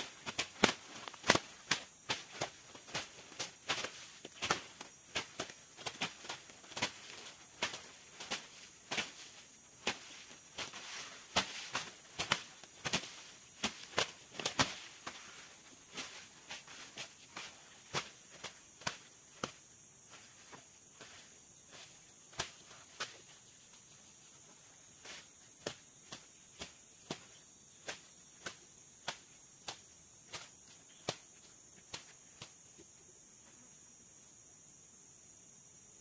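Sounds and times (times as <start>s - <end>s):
high-pitched insect hiss: 0.0s - 36.0s.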